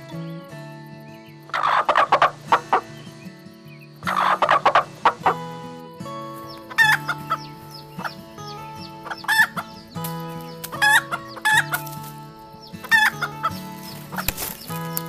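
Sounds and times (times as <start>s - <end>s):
background music with held notes: 0.0s - 15.0s
poultry rattling calls: 1.0s - 15.0s.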